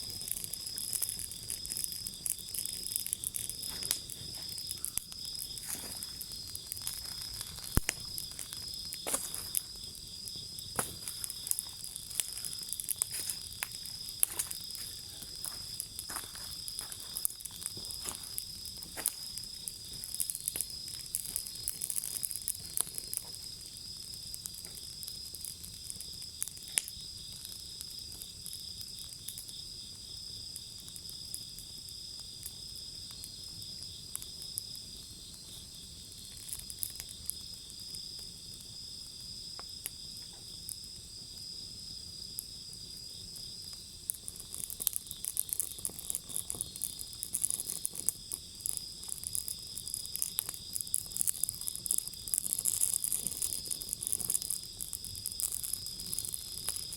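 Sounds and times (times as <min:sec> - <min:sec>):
high-pitched insect trill: 0:00.0 - 0:56.9
wood fire crackling: 0:00.0 - 0:56.9.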